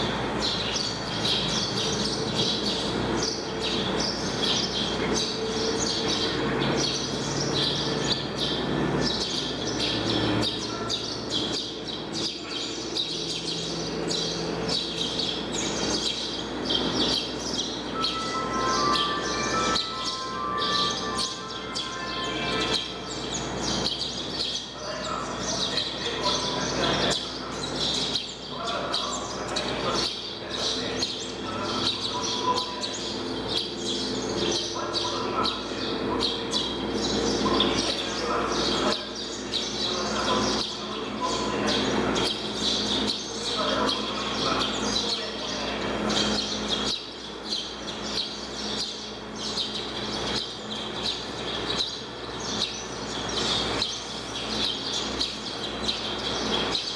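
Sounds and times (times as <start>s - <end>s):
scattered voices: 0.0s - 56.9s
small birds chirping: 0.0s - 56.9s.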